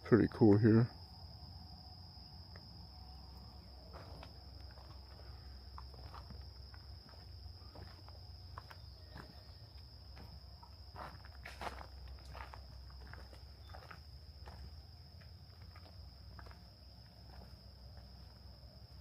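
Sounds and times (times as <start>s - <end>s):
high-pitched insect trill: 0.0s - 19.0s
footsteps on woodland trail: 2.6s - 19.0s.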